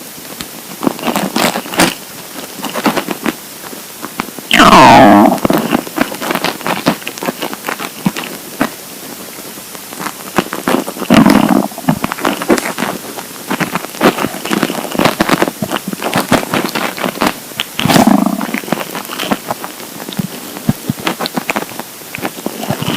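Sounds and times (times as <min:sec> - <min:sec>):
stomach gurgling pops: 0:00.3 - 0:03.4, 0:04.1 - 0:08.8, 0:09.8 - 0:22.9
stomach growling: 0:00.8 - 0:03.4, 0:04.1 - 0:08.8, 0:09.9 - 0:22.9.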